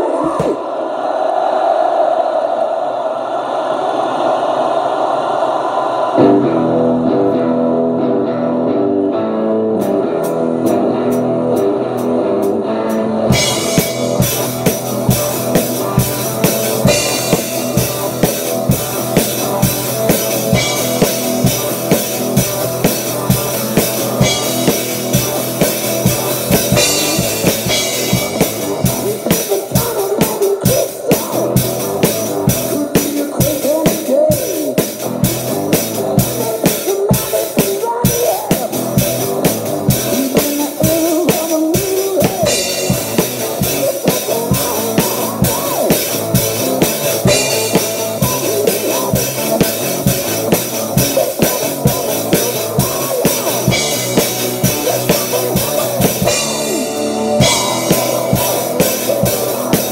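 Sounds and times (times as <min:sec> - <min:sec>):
electric guitar riff: 0:06.2 - 0:59.9
hard rock song: 0:06.2 - 0:59.9
drum kit playing along: 0:09.7 - 0:59.9.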